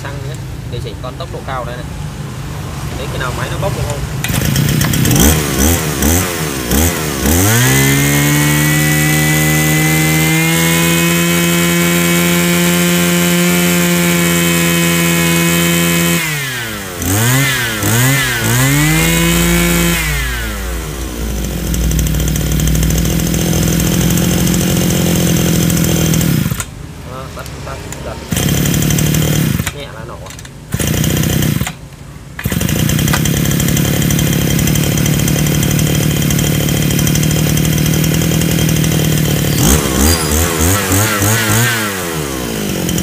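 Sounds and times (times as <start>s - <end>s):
brush cutter engine revving: 2.8s - 43.0s.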